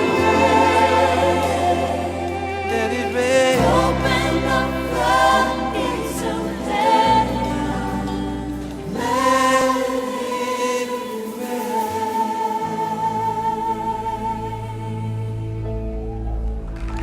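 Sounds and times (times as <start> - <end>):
choir singing gospel song: 0.0 - 16.3
musical backing: 0.0 - 17.0.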